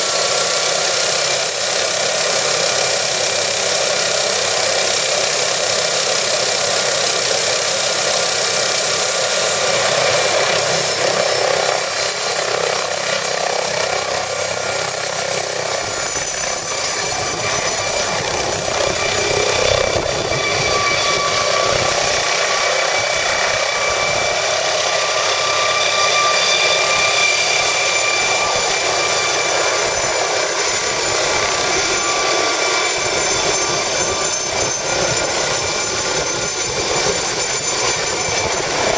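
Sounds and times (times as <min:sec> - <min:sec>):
helicopter engines and rotor: 0:00.0 - 0:38.9
high turbine whine: 0:00.0 - 0:38.9.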